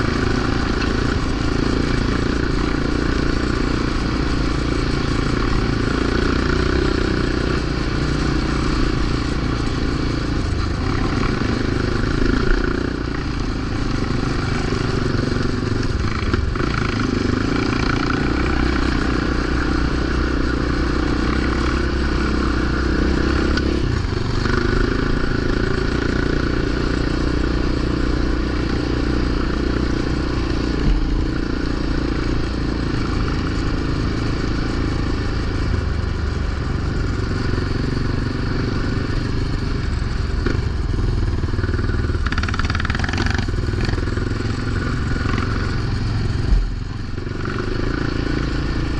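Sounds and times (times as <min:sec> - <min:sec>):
quad engine running: 0:00.0 - 0:48.9.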